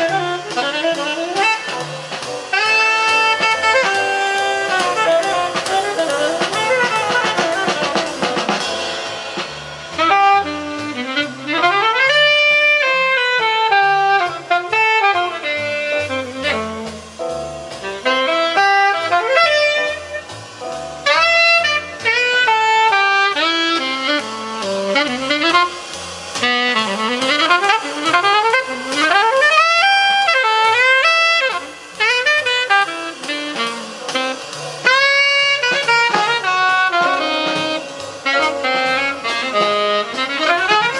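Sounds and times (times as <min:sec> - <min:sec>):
jazz through loudspeakers: 0:00.0 - 0:40.9.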